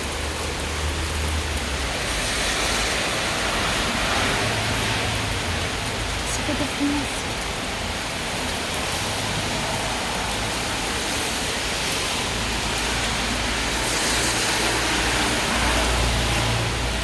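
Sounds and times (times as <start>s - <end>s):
rain falling on street: 0.0s - 17.0s
traffic rumble: 0.0s - 17.0s.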